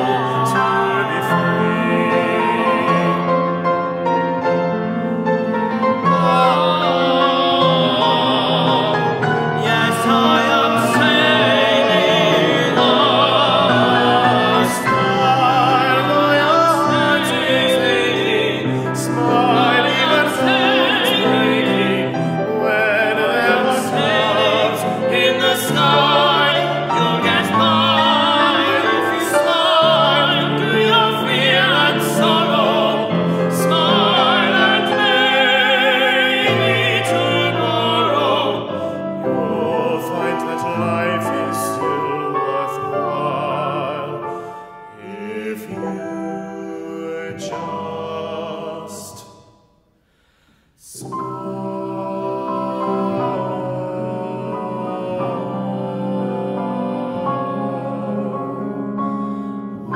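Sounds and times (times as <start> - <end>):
male voices singing with vibrato: 0.0 - 4.0, 5.1 - 49.4, 50.8 - 59.9
piano accompaniment: 0.0 - 49.3, 51.0 - 59.9.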